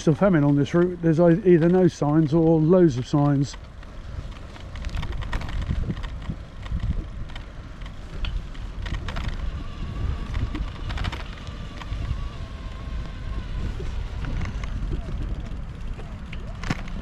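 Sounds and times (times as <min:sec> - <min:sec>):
bicycle clicks and rattles: 0:00.0 - 0:17.0
faint steady whine: 0:00.0 - 0:17.0
wind rumbling on microphone: 0:00.0 - 0:17.0.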